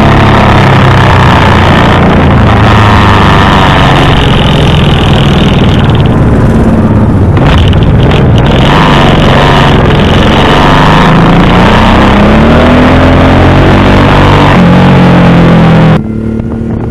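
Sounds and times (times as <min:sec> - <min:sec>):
motorcycle engine running: 0:00.0 - 0:16.9
wind rushing over microphone: 0:00.0 - 0:16.9.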